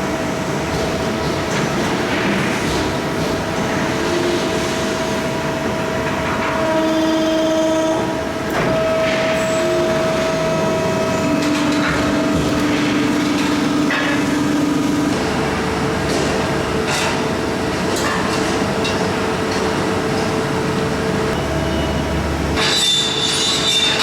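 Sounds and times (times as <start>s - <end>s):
press brake machine humming: 0.0s - 17.9s, 18.8s - 24.0s.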